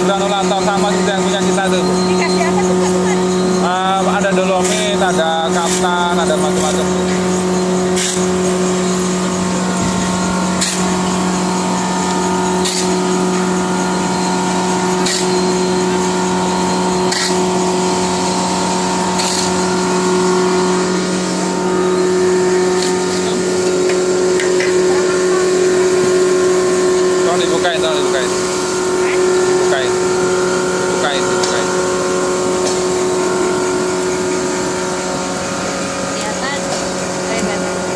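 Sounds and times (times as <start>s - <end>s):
conveyor machine hum and whine: 0.0s - 37.9s.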